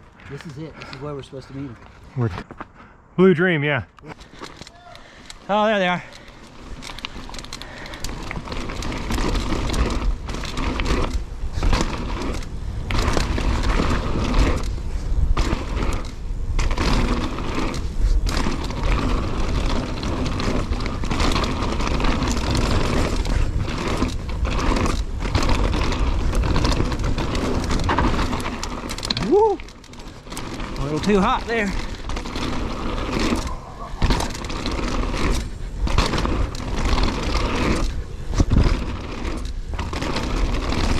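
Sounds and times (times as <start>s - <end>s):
bike tyres rolling on dirt: 0.0s - 40.9s.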